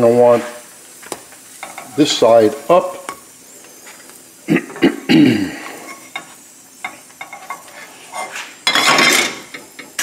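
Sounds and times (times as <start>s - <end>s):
pancakes sizzling in hot oil: 0.0s - 10.0s
skillet scraping on burner grate: 0.3s - 10.0s.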